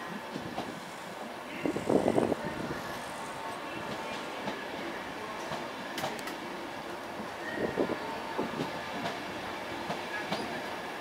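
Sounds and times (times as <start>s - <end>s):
train coaches rumbling past: 0.0s - 11.0s.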